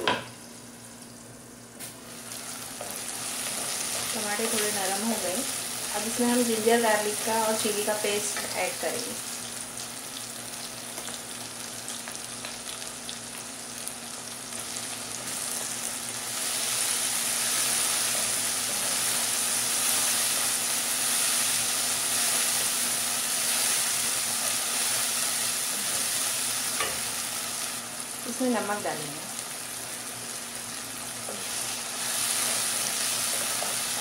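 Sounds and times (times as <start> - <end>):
vegetables sizzling in hot oil: 1.8 - 34.0.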